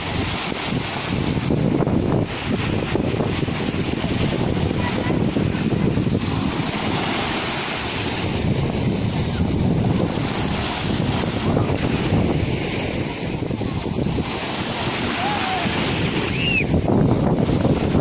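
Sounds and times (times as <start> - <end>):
sea waves breaking: 0.0 - 18.0
wind buffeting microphone: 0.0 - 18.0.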